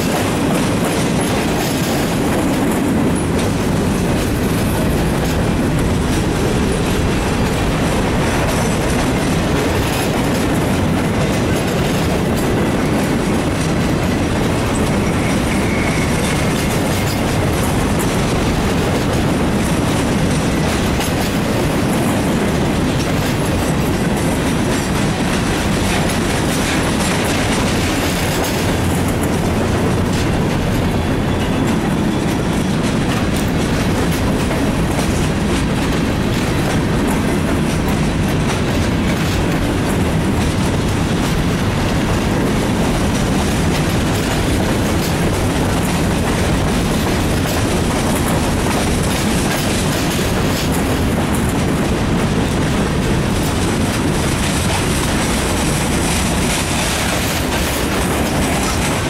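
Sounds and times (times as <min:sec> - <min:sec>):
freight train rolling past: 0:00.0 - 0:59.0
wheels clickety-clack: 0:00.0 - 0:59.0.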